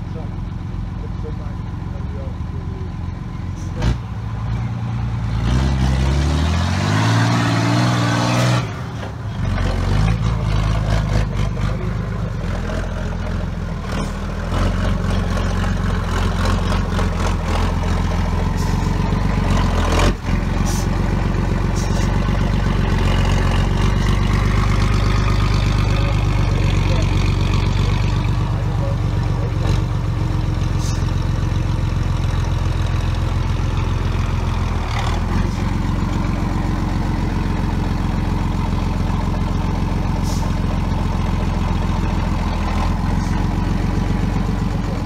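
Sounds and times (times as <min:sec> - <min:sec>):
truck diesel engine revving: 0:00.0 - 0:45.0.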